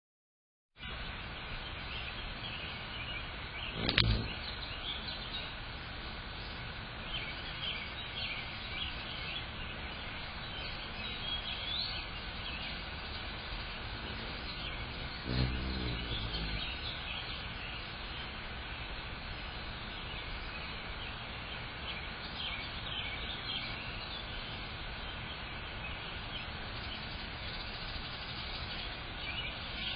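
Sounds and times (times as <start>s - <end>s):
small birds chirping: 0.8s - 29.9s
steady outdoor hiss: 0.8s - 29.9s
hummingbird wings humming: 2.6s - 29.9s.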